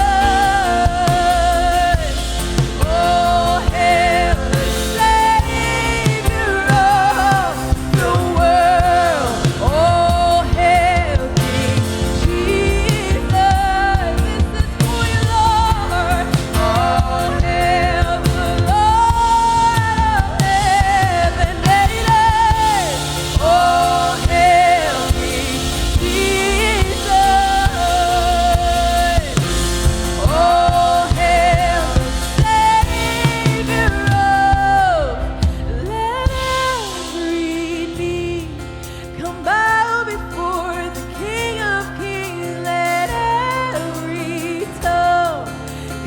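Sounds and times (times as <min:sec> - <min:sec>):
full band with drums: 0:00.0 - 0:46.0
person singing with vibrato: 0:00.0 - 0:46.0.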